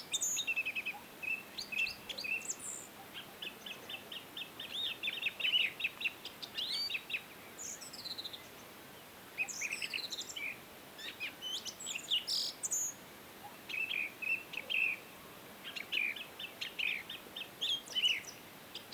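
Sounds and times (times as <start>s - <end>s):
faint outdoor hiss: 0.0s - 18.9s
songbirds singing: 0.0s - 18.9s.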